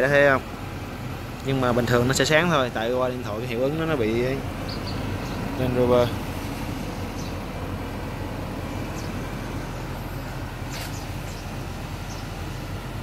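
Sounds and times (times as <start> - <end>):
motor vehicle hum and rumble: 0.0 - 13.0.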